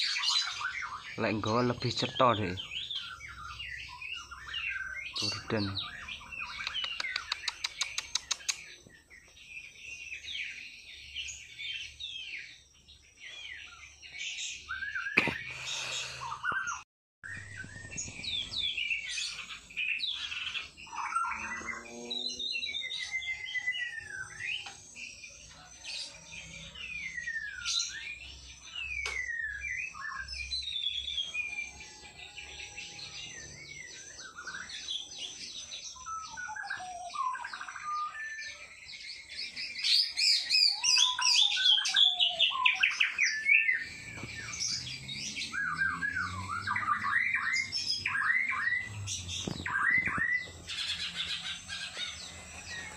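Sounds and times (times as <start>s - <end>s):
songbird whistling song: 0.0s - 52.9s.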